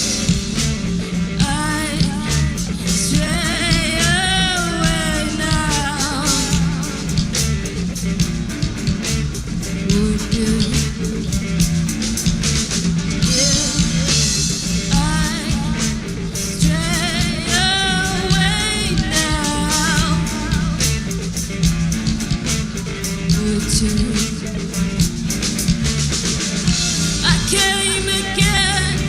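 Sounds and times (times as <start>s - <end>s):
drum-kit beat: 0.0s - 29.0s
guitars: 0.0s - 29.0s.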